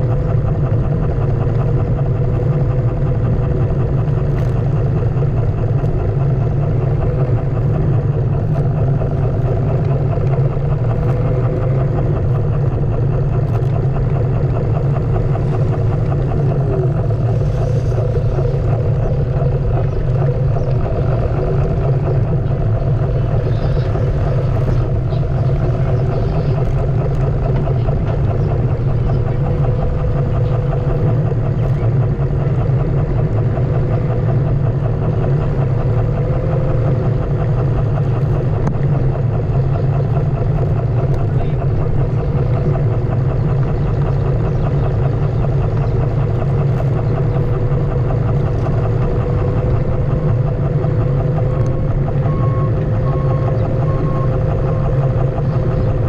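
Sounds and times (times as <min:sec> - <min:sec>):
electric motor whine: 0:00.0 - 0:56.0
wind and road rumble: 0:00.0 - 0:56.0.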